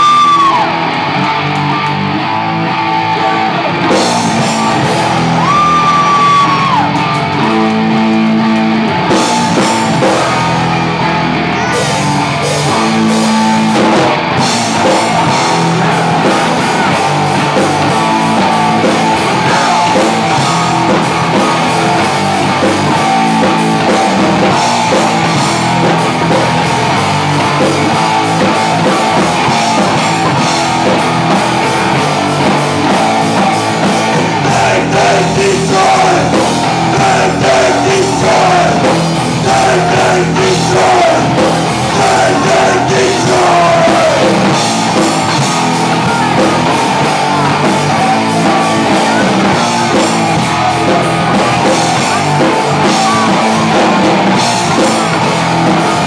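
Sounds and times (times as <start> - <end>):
drum kit: 0.0 - 56.0
electric guitars: 0.0 - 56.0.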